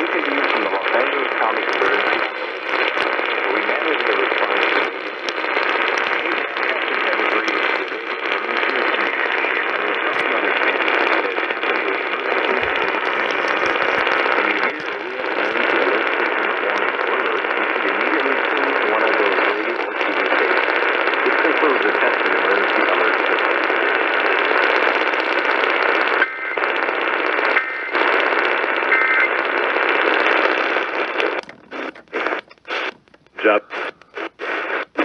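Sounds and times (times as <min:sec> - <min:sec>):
faint crackle: 0:00.0 - 0:35.0
radio static and hiss: 0:00.0 - 0:35.0.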